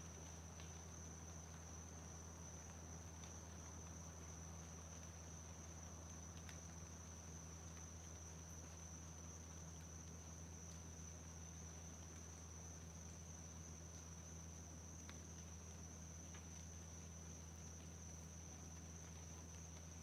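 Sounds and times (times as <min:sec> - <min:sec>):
crickets trilling: 0:00.0 - 0:20.0
faint ticks: 0:00.0 - 0:20.0.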